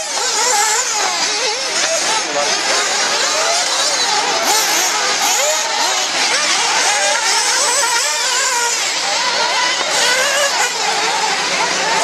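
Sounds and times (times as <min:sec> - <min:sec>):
small engines revving: 0:00.0 - 0:12.0.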